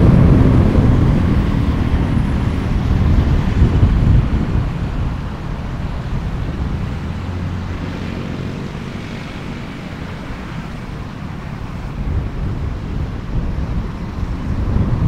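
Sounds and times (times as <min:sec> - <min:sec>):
car engine and tyre rumble: 0:00.0 - 0:15.0
engine hum: 0:00.0 - 0:15.0.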